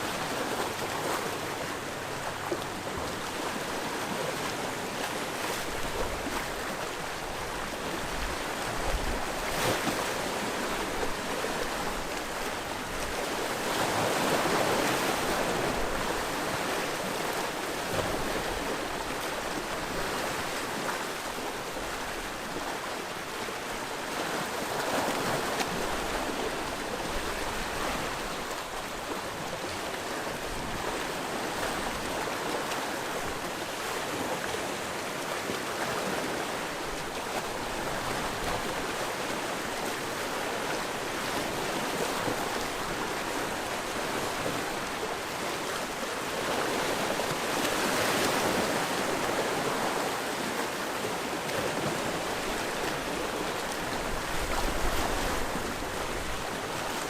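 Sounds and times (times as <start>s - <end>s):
sea waves washing onto shore: 0.0s - 57.0s.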